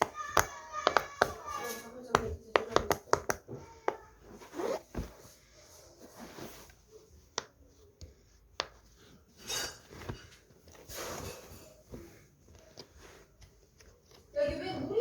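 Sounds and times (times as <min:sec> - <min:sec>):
rubbing and handling noise: 0:00.0 - 0:15.0.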